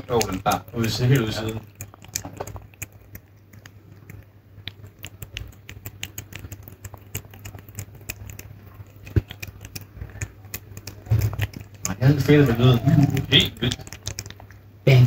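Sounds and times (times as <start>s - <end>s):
cat licking and smacking food: 0.0s - 15.0s.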